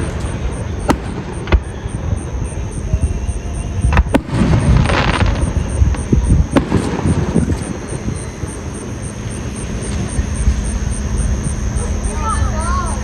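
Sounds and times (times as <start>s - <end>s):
fireworks bangs: 0.0s - 13.0s
fireworks crackling: 0.0s - 13.0s
low rumble: 0.0s - 13.0s.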